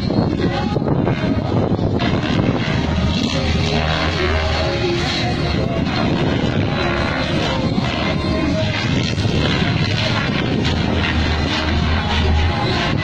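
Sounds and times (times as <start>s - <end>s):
model helicopter rotor and motor: 0.0s - 13.0s.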